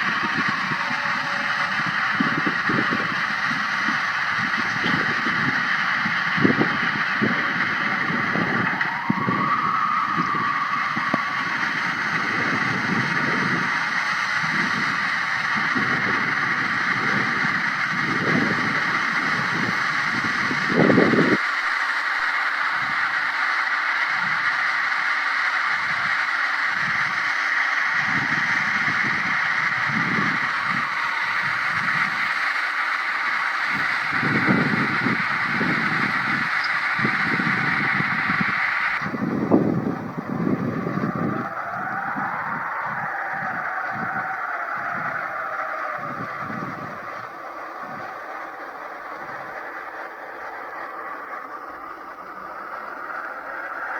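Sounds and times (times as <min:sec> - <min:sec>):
low gusty wind rumbles: 0:00.0 - 0:53.9
strong wind hissing: 0:00.0 - 0:53.9
thin wind howl: 0:00.0 - 0:53.9.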